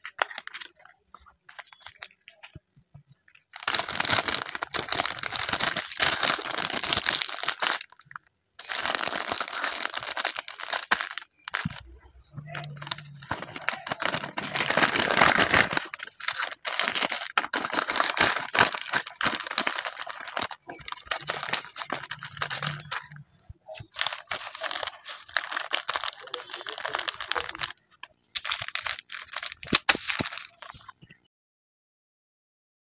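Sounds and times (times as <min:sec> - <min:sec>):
paper bag crinkling and rustling: 0:00.0 - 0:02.6, 0:03.5 - 0:31.0.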